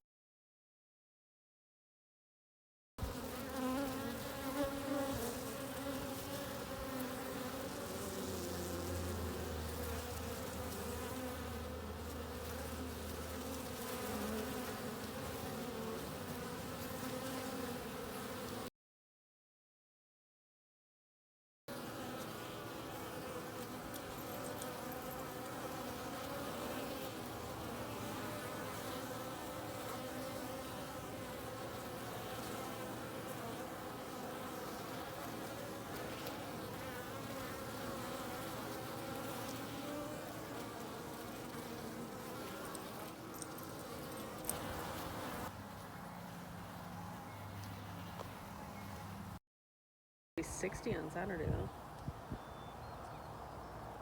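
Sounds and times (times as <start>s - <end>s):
bees buzzing: 3.0s - 18.7s, 21.7s - 49.4s, 50.4s - 52.5s.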